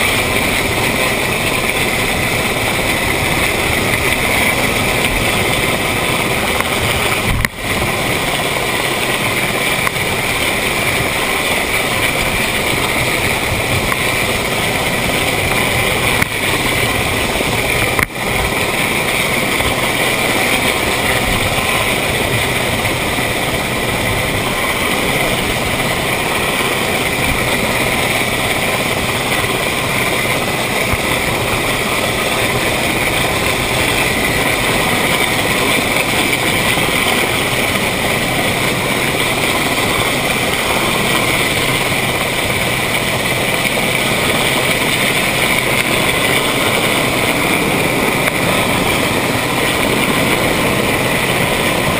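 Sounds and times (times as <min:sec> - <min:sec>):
helicopter hovering overhead: 0:00.0 - 0:51.9
outboard engine running: 0:00.0 - 0:51.9
wind rushing over microphone: 0:00.0 - 0:51.9.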